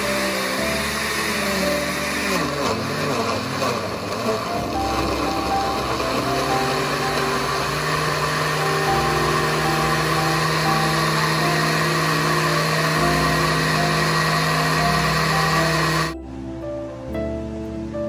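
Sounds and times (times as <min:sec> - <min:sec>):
blender motor whirring: 0:00.0 - 0:16.2
soft background music: 0:00.0 - 0:18.0.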